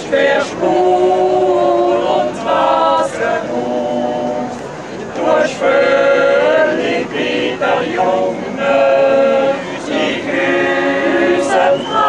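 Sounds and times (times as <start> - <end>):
mixed choir singing a cappella: 0.0 - 12.0.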